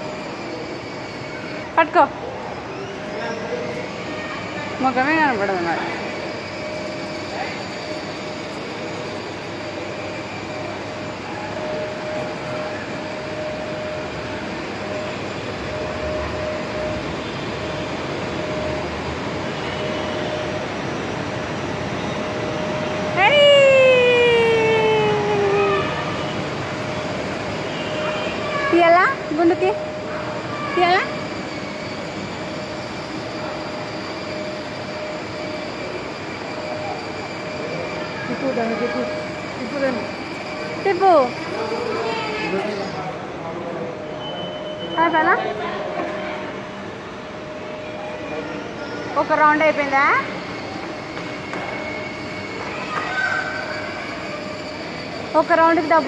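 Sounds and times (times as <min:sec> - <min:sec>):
toy motor whine: 0:00.0 - 0:43.1, 0:48.1 - 0:56.0.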